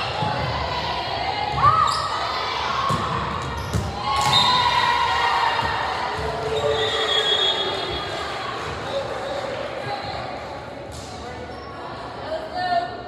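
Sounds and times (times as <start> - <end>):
crowd voices and shouts: 0.0 - 13.0.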